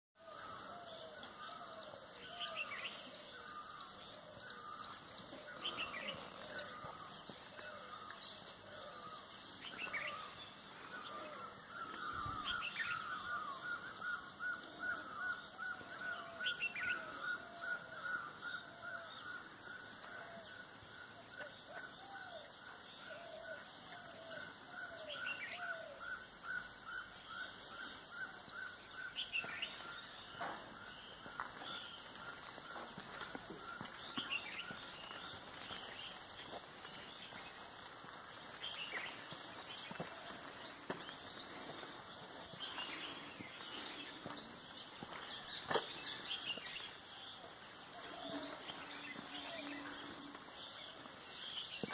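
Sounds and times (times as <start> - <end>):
wild birds calling and chirping: 0.2 - 51.9.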